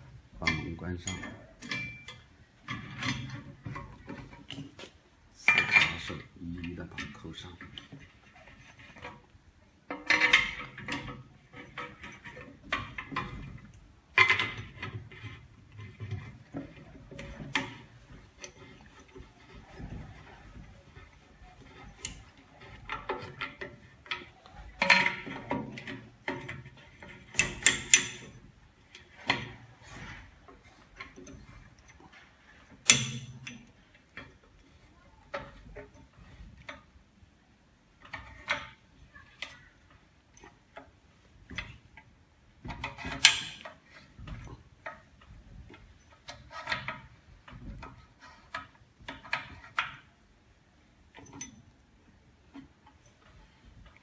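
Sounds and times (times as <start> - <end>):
clicks and metal knocks: 0.0 - 54.0.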